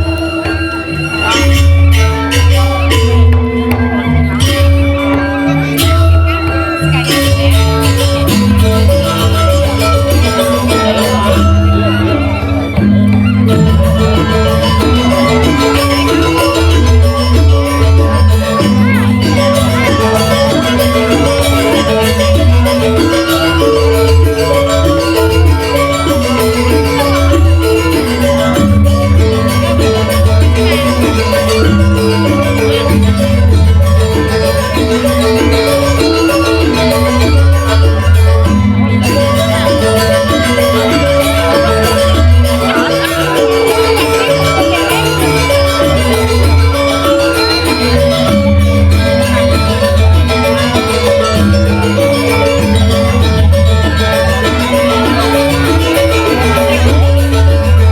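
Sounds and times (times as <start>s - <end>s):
gamelan dance music: 0.0s - 57.9s
metallophones ringing a melody: 0.0s - 57.9s.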